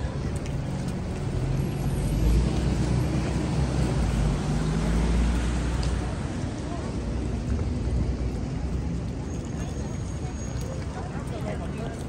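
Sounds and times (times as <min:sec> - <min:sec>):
bus engines rumbling: 0:00.0 - 0:12.0.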